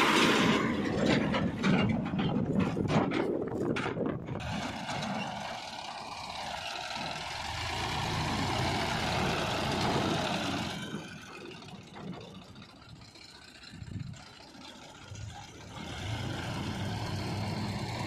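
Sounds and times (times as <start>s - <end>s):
tractor diesel engine passing: 0.0s - 18.0s.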